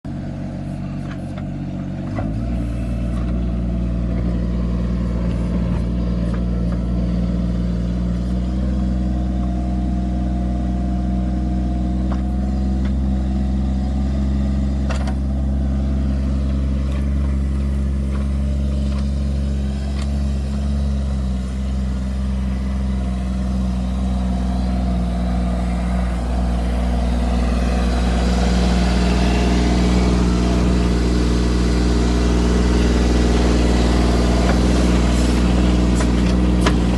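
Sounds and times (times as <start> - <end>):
tractor diesel engine under load: 0.0 - 36.9.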